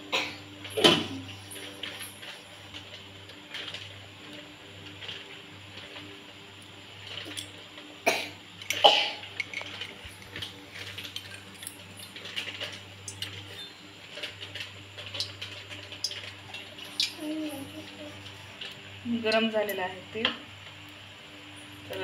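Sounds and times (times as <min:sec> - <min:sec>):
batter crackling in hot oil: 0:01.4 - 0:22.0.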